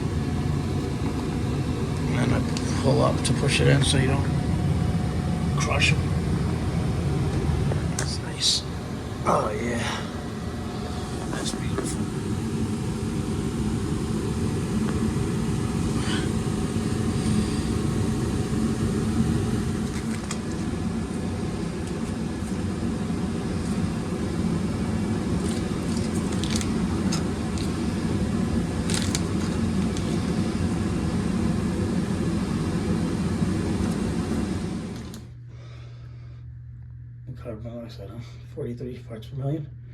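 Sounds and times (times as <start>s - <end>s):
gas furnace burners rumbling: 0.0s - 39.9s.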